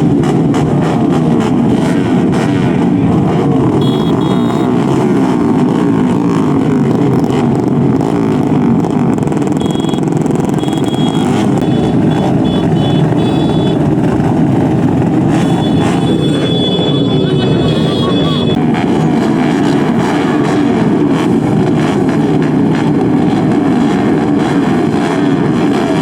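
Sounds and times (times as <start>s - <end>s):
racing motorcycle engines: 0.0s - 26.0s.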